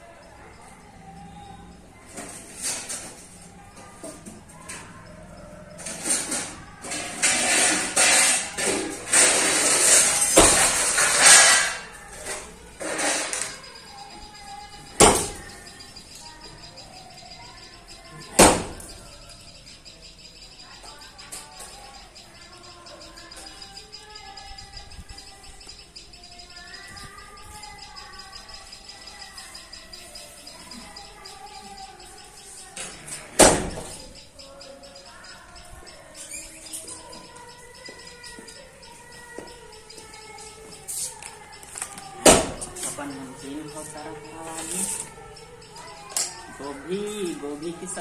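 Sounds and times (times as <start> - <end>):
faint bird chirping: 0.0 - 48.0.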